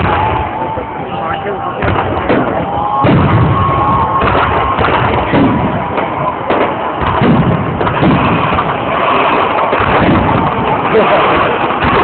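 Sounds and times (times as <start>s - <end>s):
firework whistle: 0.0s - 12.0s
fireworks bangs and bursts: 0.0s - 12.0s.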